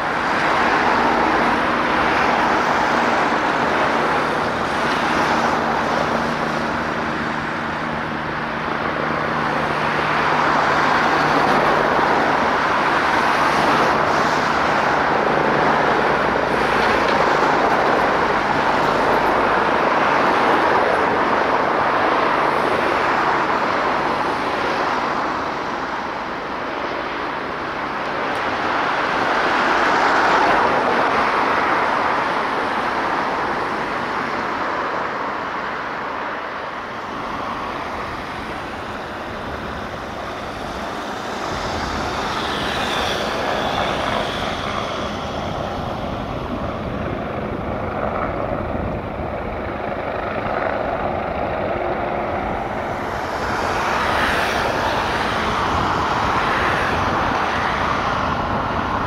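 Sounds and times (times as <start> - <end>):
road traffic passing: 0.0 - 59.0.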